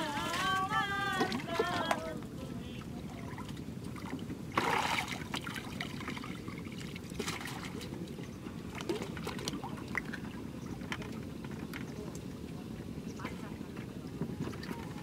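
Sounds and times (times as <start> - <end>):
low steady background rumble: 0.0 - 15.0
water trickling and splashing: 0.0 - 15.0.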